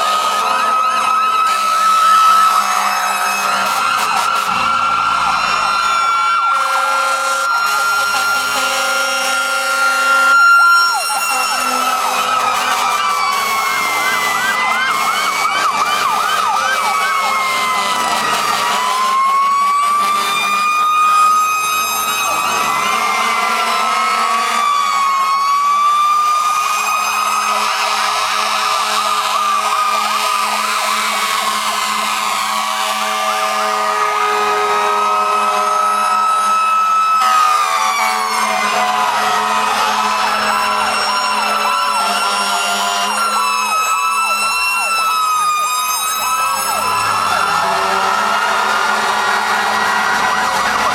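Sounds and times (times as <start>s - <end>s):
sirens wailing: 0.0s - 50.9s
sirens yelping: 0.0s - 50.9s.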